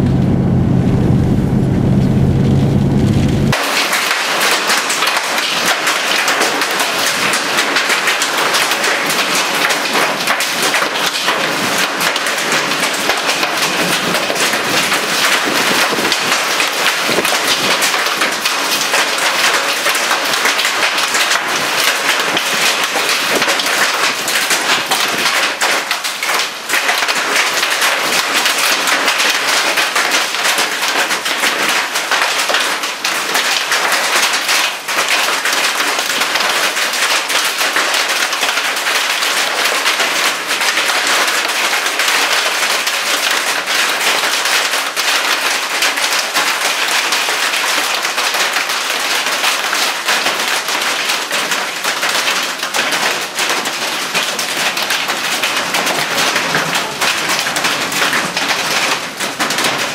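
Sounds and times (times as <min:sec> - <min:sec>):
hail and rain falling hard: 0:03.5 - 0:59.9.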